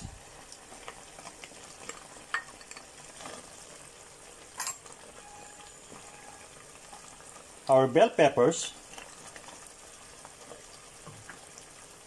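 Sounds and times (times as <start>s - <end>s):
sauce simmering in a pan: 0.0s - 12.0s.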